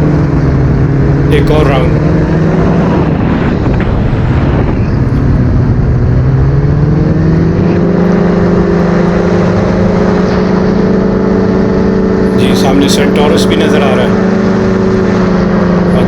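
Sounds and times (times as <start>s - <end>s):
propeller engine running: 0.0s - 16.0s.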